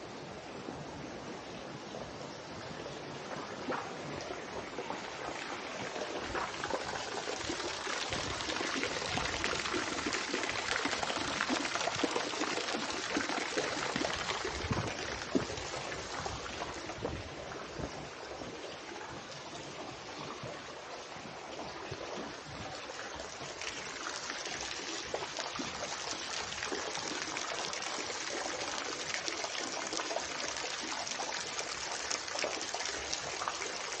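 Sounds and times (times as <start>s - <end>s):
water trickling into a pond: 0.0s - 34.0s.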